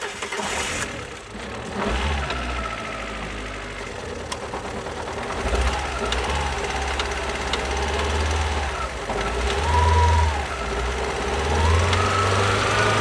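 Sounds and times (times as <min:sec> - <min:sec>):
car engine knocking: 0:01.1 - 0:13.0.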